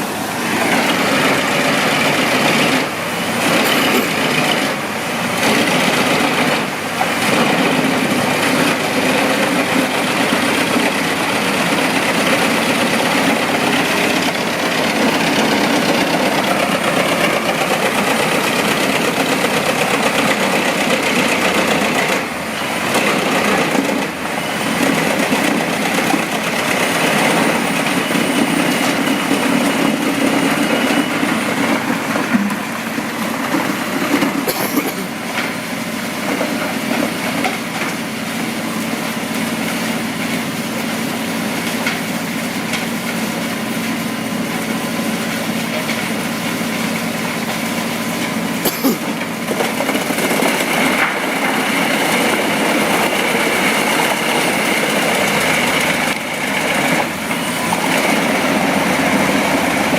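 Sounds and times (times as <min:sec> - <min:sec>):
wood chipper running: 0:00.0 - 0:59.9.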